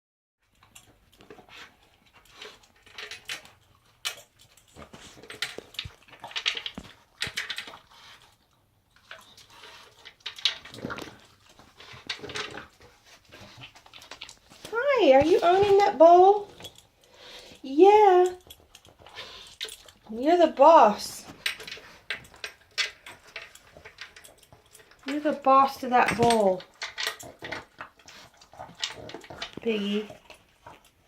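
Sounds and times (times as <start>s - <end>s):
dog sniffing and chewing: 0.4s - 31.0s.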